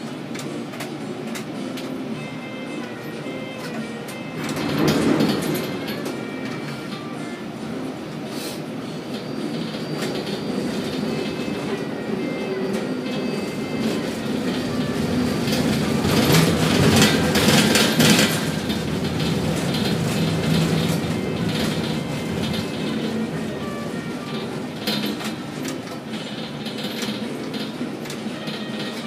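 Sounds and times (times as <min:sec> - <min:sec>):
crane machinery rumble and clatter: 0:00.0 - 0:29.0.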